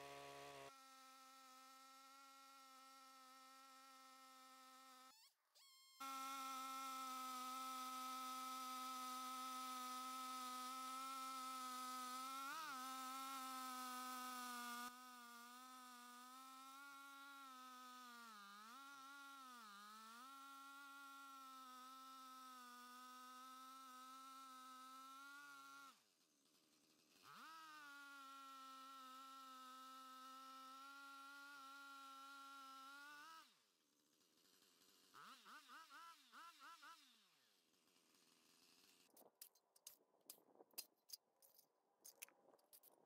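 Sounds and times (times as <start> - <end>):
chainsaw cutting log: 0.0 - 5.1, 6.0 - 33.6, 34.2 - 41.2.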